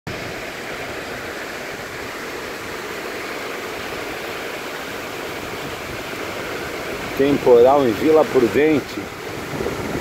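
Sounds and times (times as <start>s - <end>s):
heavy rain downpour: 0.1s - 10.0s
strong wind: 0.1s - 10.0s.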